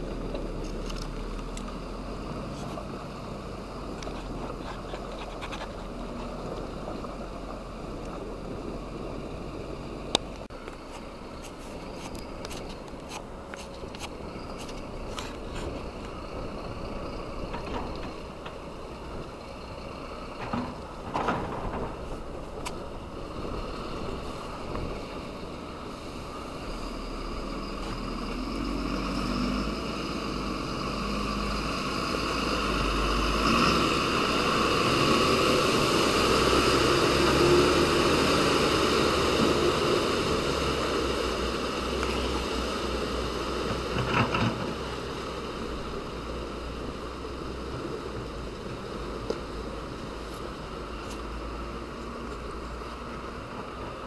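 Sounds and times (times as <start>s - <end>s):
truck diesel engine in mud: 0.0s - 54.0s.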